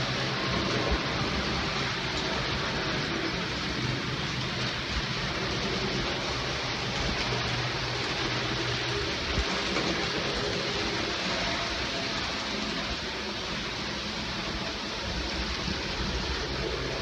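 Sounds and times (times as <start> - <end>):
model trains whirring on track: 0.0 - 17.0.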